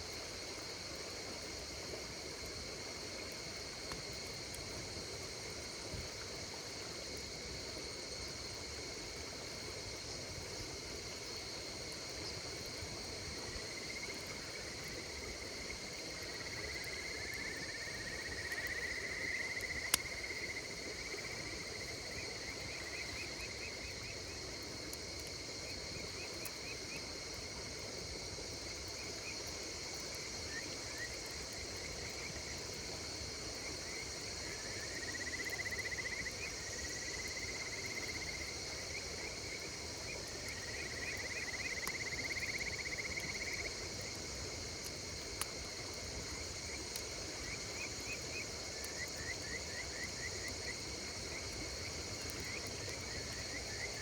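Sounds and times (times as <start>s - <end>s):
night insects chirping: 0.0s - 54.0s.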